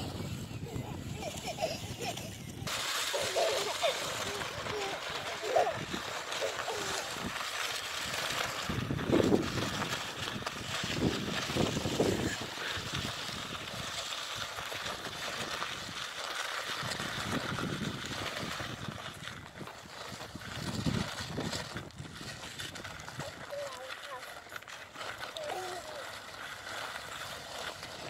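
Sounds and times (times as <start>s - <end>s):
plastic crate scraping on gravel: 0.0s - 28.0s.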